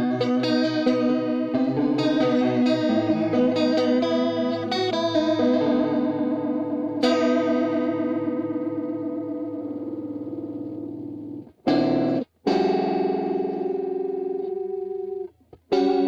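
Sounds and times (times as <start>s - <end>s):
overdriven electric guitar with chorus: 0.0s - 16.0s.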